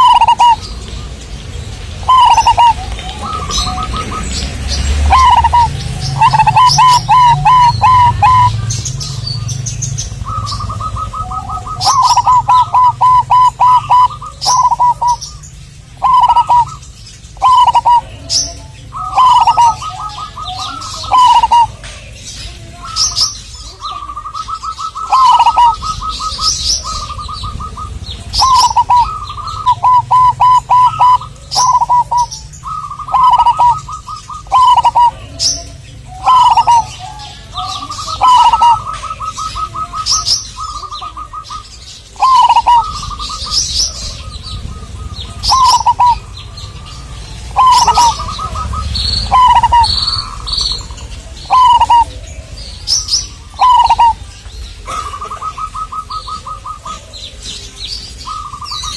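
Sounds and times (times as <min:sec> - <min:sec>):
dove cooing: 0:00.0 - 0:58.9
small birds chirping: 0:00.0 - 0:58.9.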